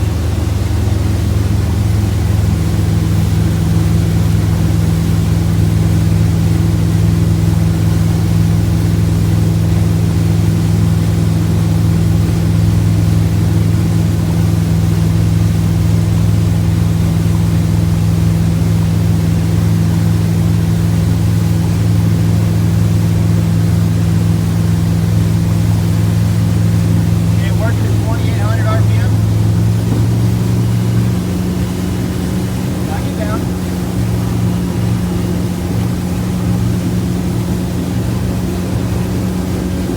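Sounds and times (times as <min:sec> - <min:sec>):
motorboat engine running: 0:00.0 - 0:39.9.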